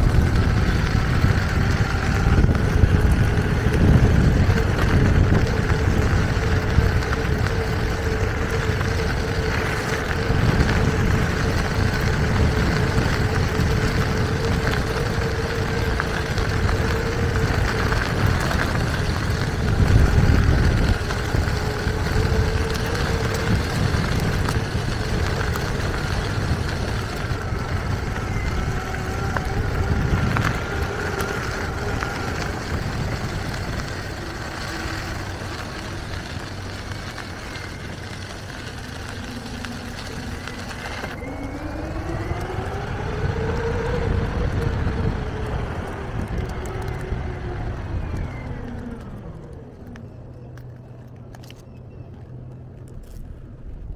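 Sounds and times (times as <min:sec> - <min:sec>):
faint electric motor whine: 0:00.0 - 0:53.9
tyres rumbling on pavement: 0:00.0 - 0:53.9.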